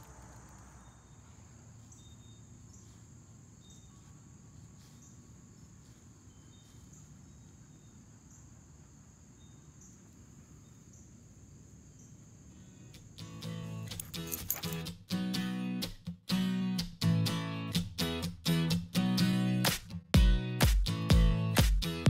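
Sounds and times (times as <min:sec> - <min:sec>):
outdoor background noise: 0:00.0 - 0:19.9.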